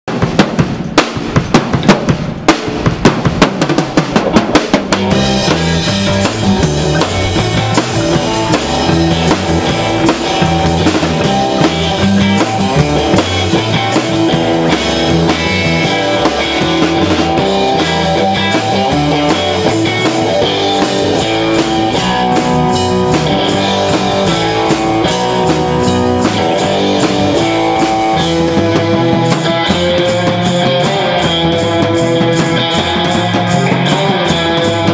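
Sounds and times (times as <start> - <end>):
drum kit playing: 0.1 - 34.9
electric guitar: 2.7 - 34.9
electric bass: 4.2 - 34.9.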